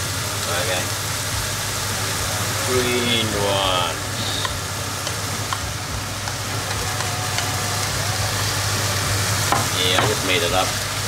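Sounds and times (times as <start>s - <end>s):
low stove hum: 0.0s - 11.0s
vegetables sizzling in a wok: 0.0s - 11.0s.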